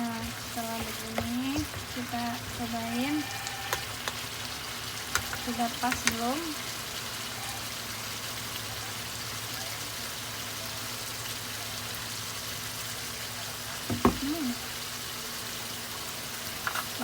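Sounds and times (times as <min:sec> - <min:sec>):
spice paste sizzling in a frying pan: 0:00.0 - 0:17.0.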